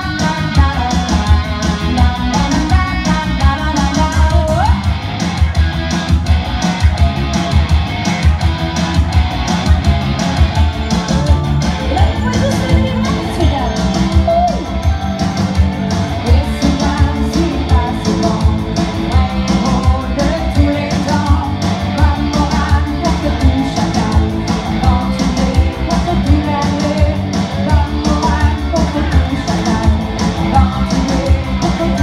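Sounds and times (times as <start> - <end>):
woman singing lead: 0.0 - 5.0, 10.9 - 32.0
electric guitar: 0.0 - 32.0
steady drum beat: 0.0 - 32.0.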